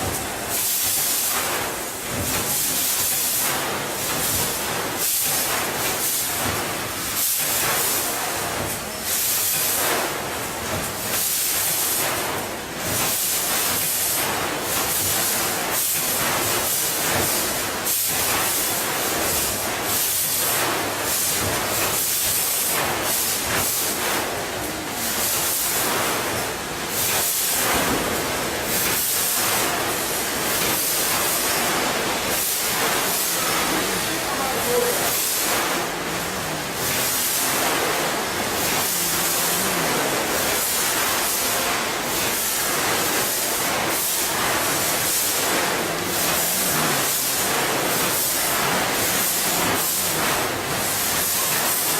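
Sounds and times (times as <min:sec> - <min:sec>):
packaging machine hissing: 0:00.0 - 0:51.9.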